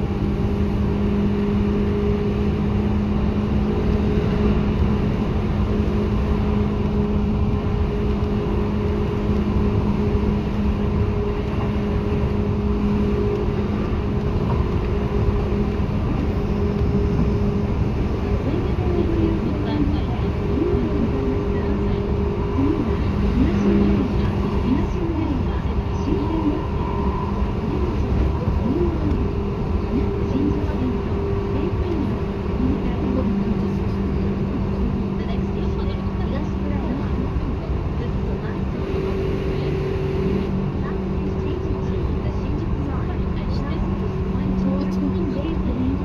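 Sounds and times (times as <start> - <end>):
steady hums from running gear: 0.0 - 46.0
train wheels rumbling on rails: 0.0 - 46.0.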